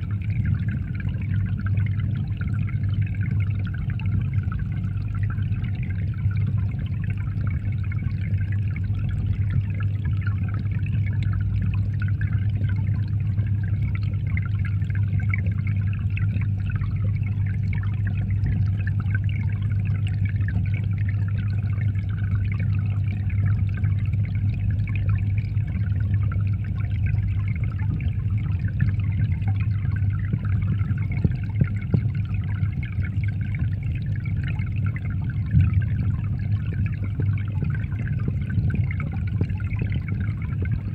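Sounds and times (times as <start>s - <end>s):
aquarium pump humming: 0.0s - 40.9s
water trickling and splashing: 0.0s - 40.9s.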